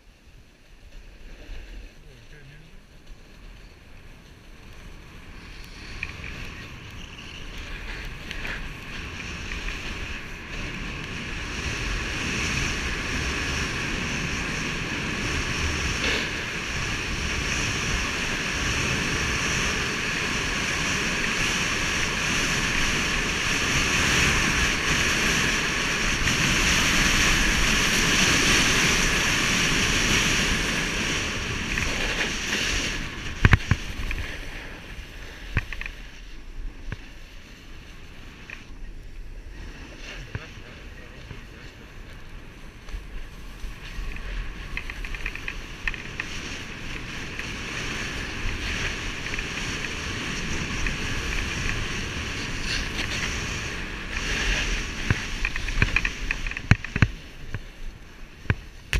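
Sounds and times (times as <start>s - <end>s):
snowboard sliding over packed snow: 0.0s - 58.9s
wind rushing over microphone: 0.0s - 58.9s.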